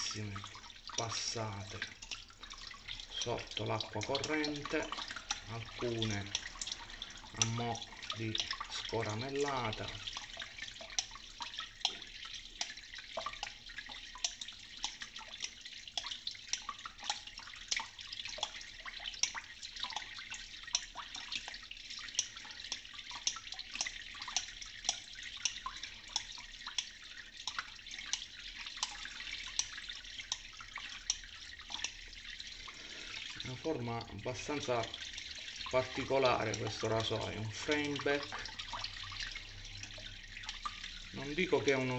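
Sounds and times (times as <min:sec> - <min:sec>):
tap water running: 0:00.0 - 0:41.9.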